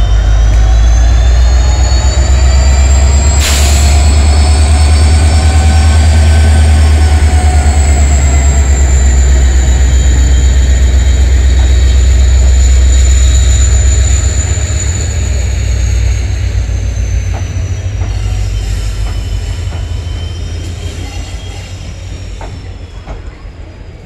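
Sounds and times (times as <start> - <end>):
high steady squeal: 0.0 - 23.2
train rumbling past: 0.0 - 24.0.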